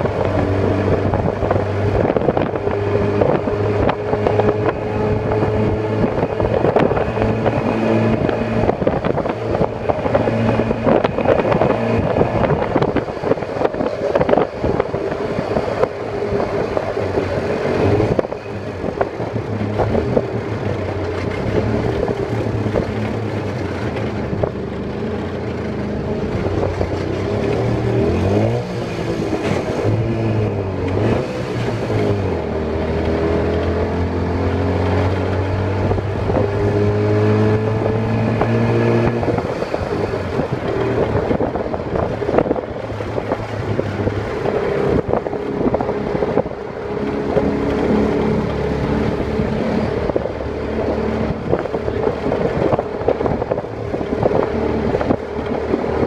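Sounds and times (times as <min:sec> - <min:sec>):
road and wind noise: 0:00.0 - 0:56.0
tuk-tuk engine running: 0:00.0 - 0:56.0.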